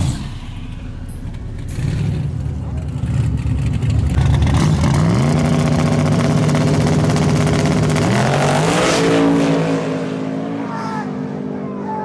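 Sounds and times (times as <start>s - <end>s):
exhaust crackling: 0.0s - 9.8s
drag car engine revving: 0.0s - 11.6s.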